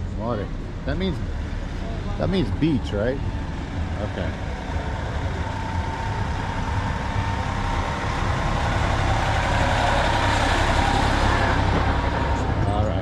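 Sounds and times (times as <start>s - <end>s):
fire truck engine rumbling: 0.0s - 13.0s.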